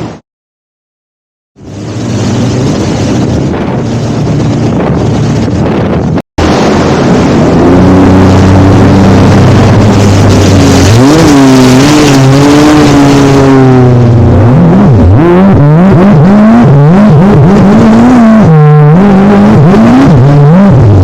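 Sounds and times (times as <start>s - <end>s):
jet ski engine revving: 1.6s - 21.0s.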